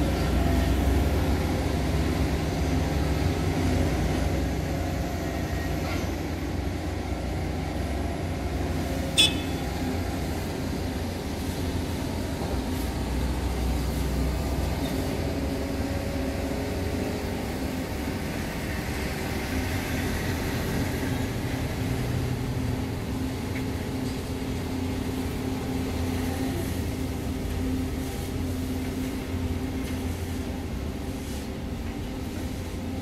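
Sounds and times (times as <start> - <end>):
excavator diesel engine drone: 0.0 - 33.0.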